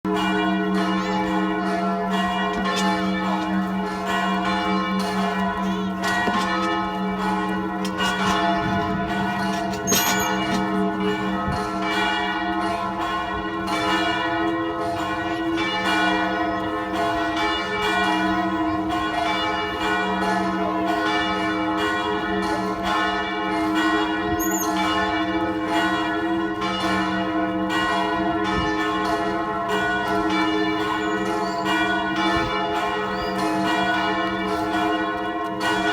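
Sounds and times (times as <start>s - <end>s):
church bells pealing: 0.1s - 35.9s.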